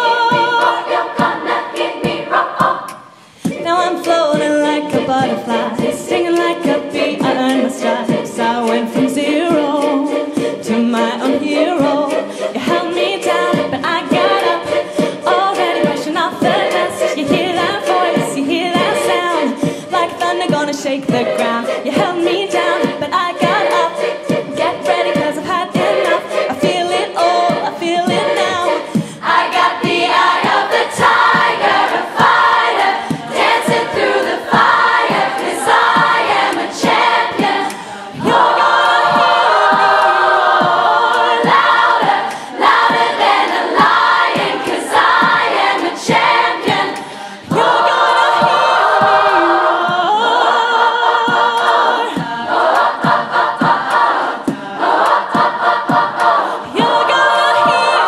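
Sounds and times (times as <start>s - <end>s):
choir singing in harmony: 0.0s - 58.0s
female soloists singing: 0.0s - 58.0s
steady percussive beat: 0.0s - 58.0s.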